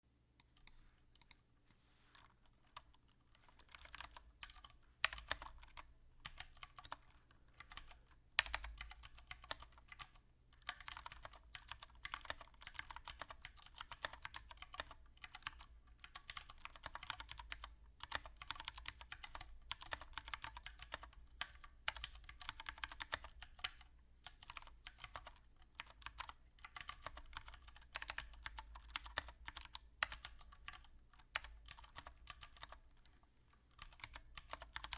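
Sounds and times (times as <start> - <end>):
mechanical keyboard typing: 2.2 - 34.9.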